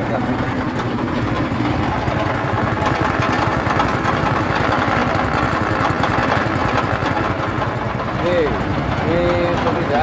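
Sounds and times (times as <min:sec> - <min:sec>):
small engine running: 0:00.0 - 0:10.0
spinning rotor of grass chopper: 0:00.0 - 0:10.0.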